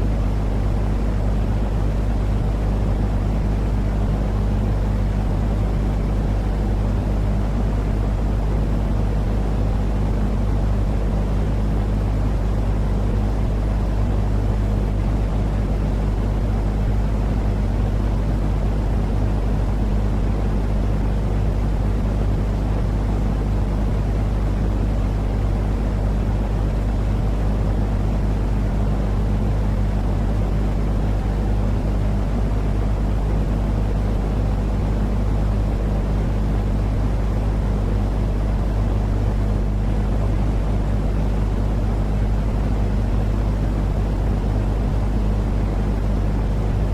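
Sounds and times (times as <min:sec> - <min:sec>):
low rumbling noise with hum: 0:00.0 - 0:46.9.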